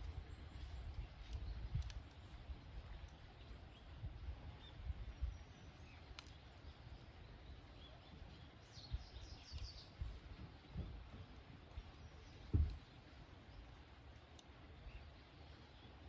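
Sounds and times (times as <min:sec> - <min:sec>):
campfire rumbling: 0:00.0 - 0:16.0
fire popping: 0:00.0 - 0:16.0.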